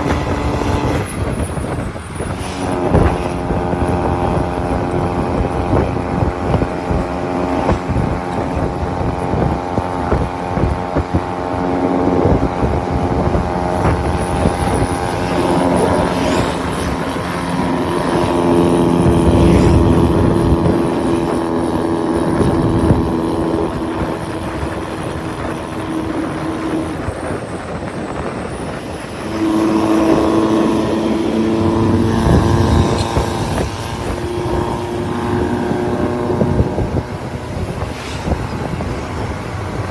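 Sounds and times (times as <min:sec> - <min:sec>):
diesel engine running hard: 0:00.0 - 0:39.9.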